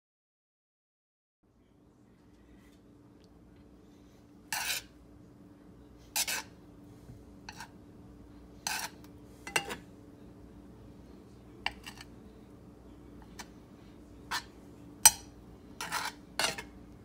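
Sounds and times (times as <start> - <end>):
faint steady hum: 1.4 - 17.0.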